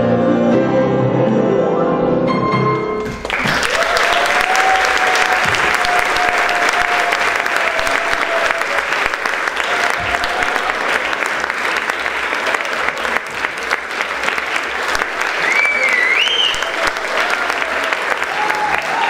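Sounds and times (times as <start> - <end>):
audience applauding: 3.0 - 19.0.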